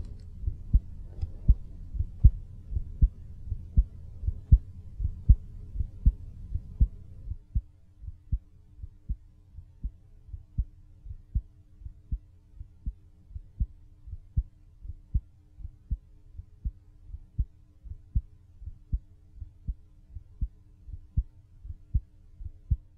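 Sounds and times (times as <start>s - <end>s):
faint steady hum: 0.0s - 22.9s
heartbeat clicks: 0.0s - 22.9s.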